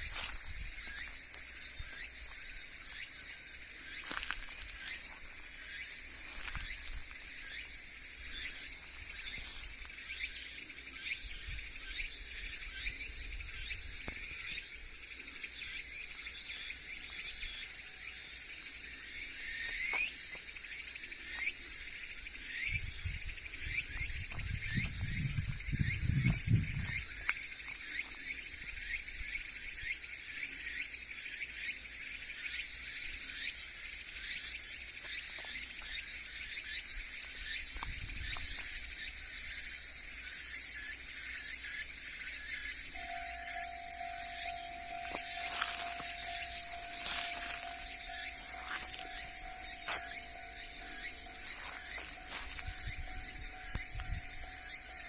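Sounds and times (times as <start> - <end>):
insects shrilling and chirping: 0.0 - 55.0.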